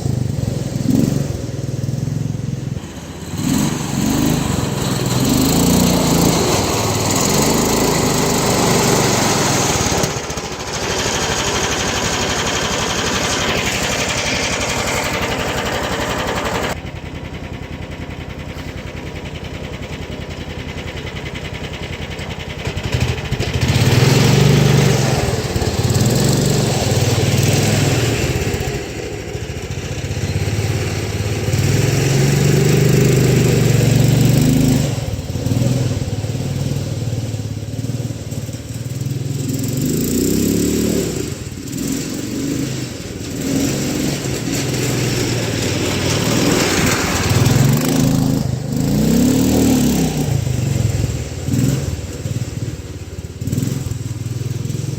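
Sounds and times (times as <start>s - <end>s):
small engine running: 0.0s - 54.9s.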